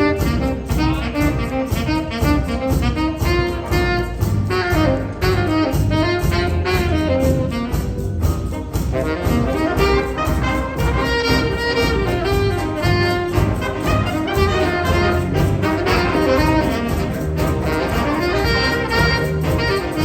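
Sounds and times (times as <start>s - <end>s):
bass guitar: 0.0s - 20.0s
saxophone section playing jazz: 0.0s - 20.0s.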